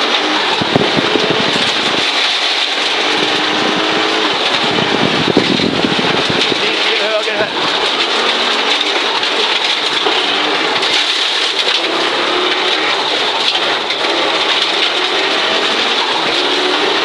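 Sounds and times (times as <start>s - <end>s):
car engine: 0.0s - 17.0s
tyres and gravel hissing: 0.0s - 17.0s.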